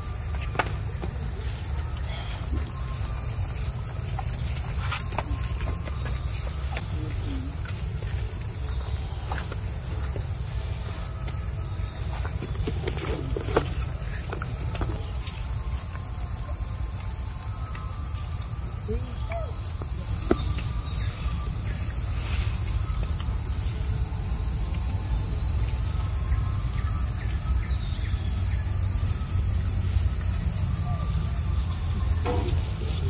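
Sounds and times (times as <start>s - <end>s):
insects chorus droning: 0.0s - 33.0s.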